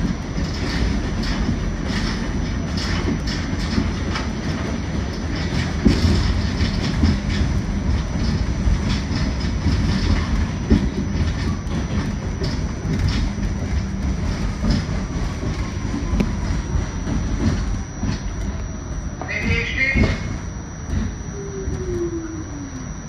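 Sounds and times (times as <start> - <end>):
wheels clicking over rail joints: 0.0 - 22.2
train wheels rumbling on rail: 0.0 - 22.9
faint falling whine: 0.0 - 23.0.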